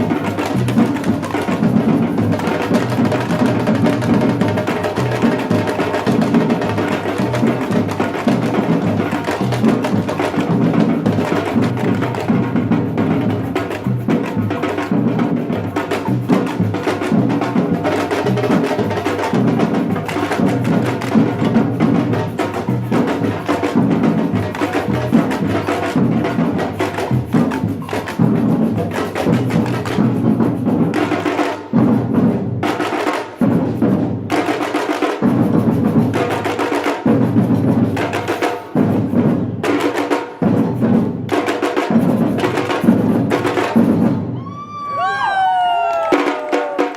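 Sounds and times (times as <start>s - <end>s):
samba drum ensemble: 0.0s - 46.9s.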